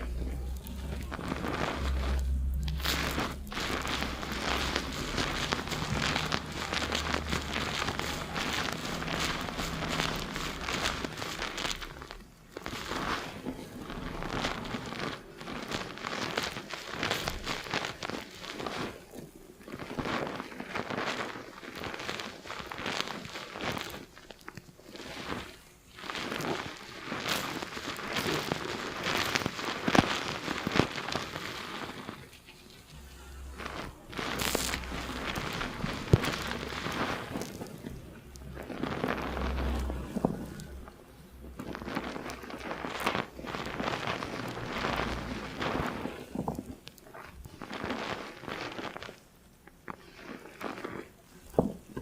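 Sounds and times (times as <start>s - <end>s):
fingers scrubbing shampoo lather: 0.0s - 52.0s.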